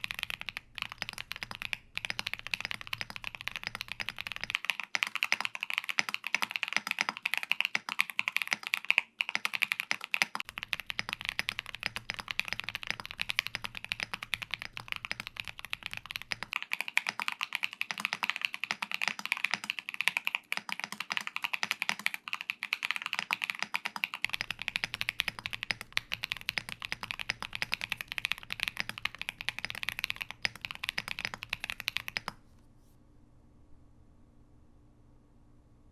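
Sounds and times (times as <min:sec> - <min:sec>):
mechanical keyboard typing: 0:00.0 - 0:32.6.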